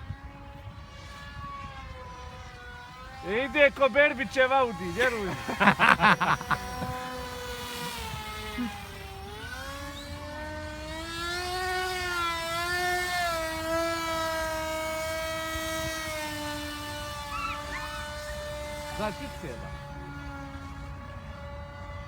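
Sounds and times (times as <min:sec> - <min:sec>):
model airplane motor buzzing: 0:00.0 - 0:22.0.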